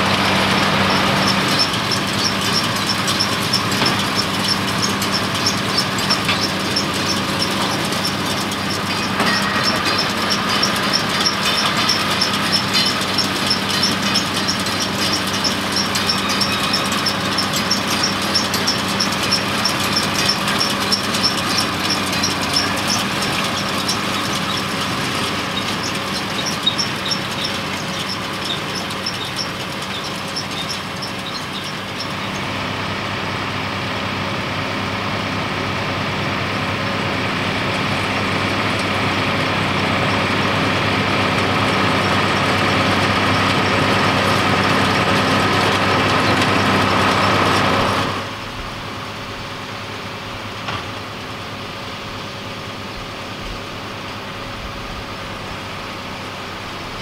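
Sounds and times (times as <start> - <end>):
tractor diesel engine: 0.0 - 57.0.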